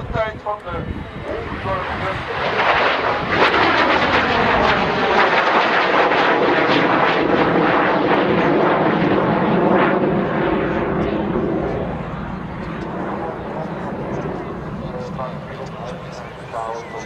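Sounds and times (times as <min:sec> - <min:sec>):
jet aircraft flying past: 0:00.0 - 0:17.0
jet engine whine: 0:00.0 - 0:17.0.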